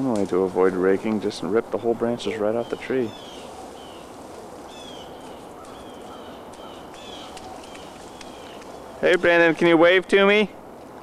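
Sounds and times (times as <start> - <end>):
steady outdoor hiss: 0.0 - 11.0
small birds chirping: 0.3 - 10.2.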